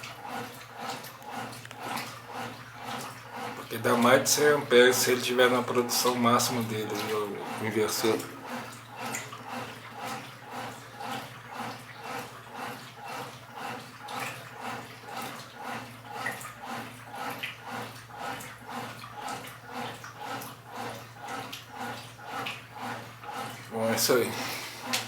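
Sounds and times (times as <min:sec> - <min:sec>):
washing machine sloshing: 0:00.0 - 0:25.0.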